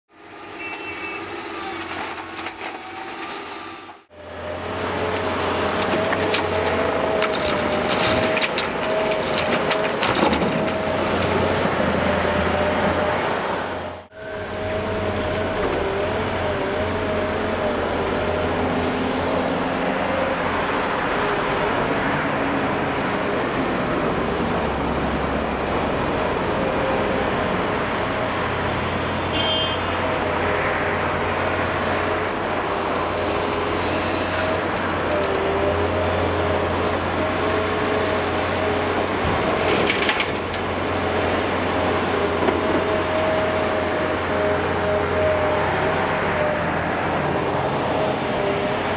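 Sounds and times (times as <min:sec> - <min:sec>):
excavator engine humming and whining: 0:00.2 - 0:48.9.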